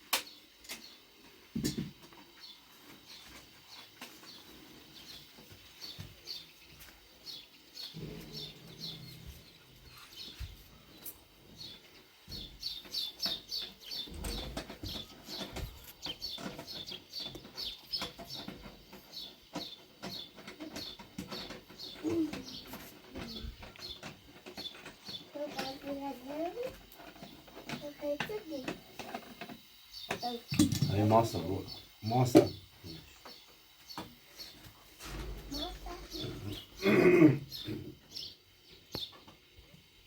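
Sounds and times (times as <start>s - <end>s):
small birds chirping: 0.1s - 40.0s.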